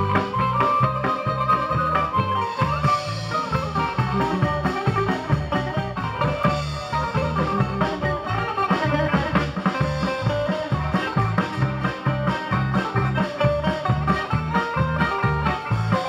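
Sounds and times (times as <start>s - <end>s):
bass and drums: 0.0s - 16.0s
fast plucked lute melody: 0.0s - 16.0s.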